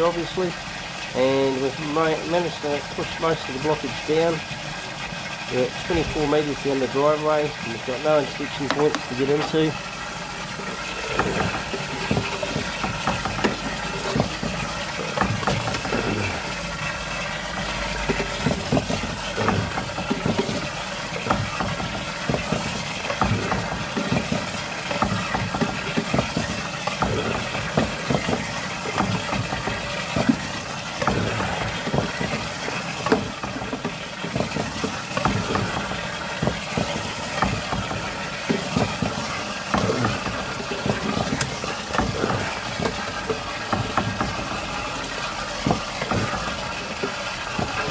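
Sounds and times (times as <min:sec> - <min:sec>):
clicks knocks and rattles: 0:08.0 - 0:47.9.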